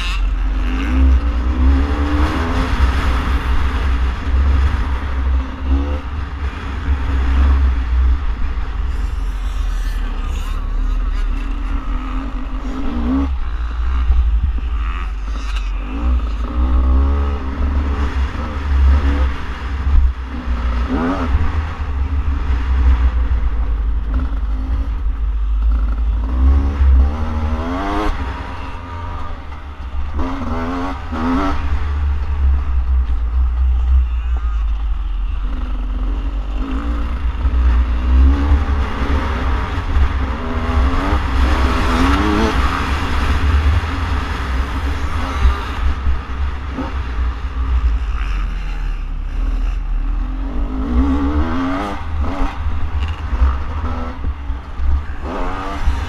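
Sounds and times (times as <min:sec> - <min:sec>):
dirt bike engine revving: 0:00.0 - 0:56.0
low engine rumble: 0:00.0 - 0:56.0.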